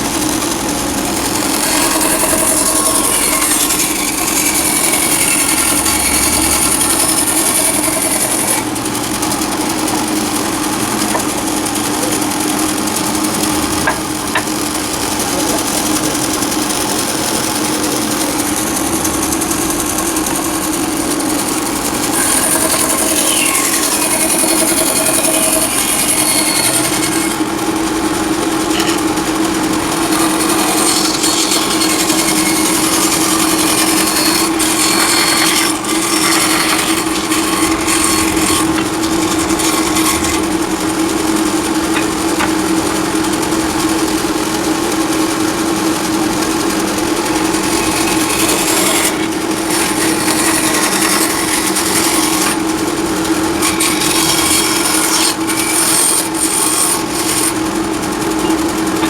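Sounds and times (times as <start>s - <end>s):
turning tool scraping wood: 0.0s - 44.1s, 46.7s - 59.0s
wood lathe humming: 0.0s - 59.0s.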